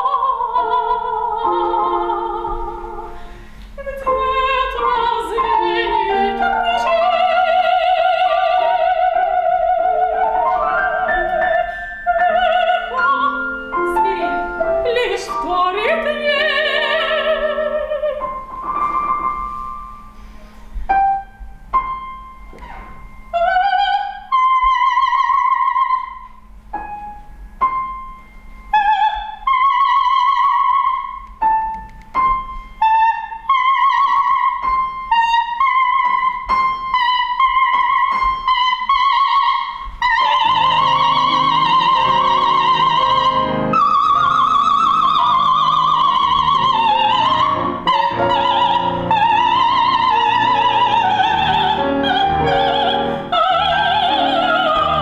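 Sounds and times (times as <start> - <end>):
soprano singing: 0.0 - 20.1, 23.2 - 26.3, 28.6 - 31.3, 32.8 - 55.0
piano accompaniment: 0.0 - 55.0.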